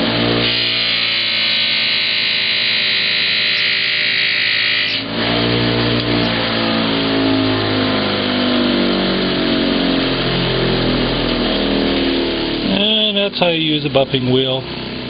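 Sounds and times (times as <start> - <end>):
buffing wheel running: 0.0 - 13.8.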